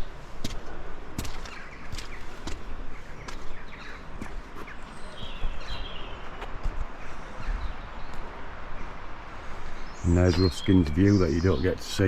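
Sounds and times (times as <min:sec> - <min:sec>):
footsteps on a path: 0:00.0 - 0:11.1
small birds chirping: 0:00.0 - 0:12.0.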